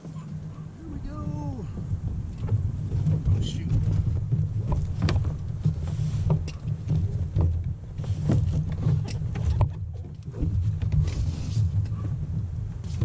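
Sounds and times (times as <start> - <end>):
dinghy hull knocking and rubbing: 0.0 - 13.0
low uneven rumble: 0.0 - 13.0.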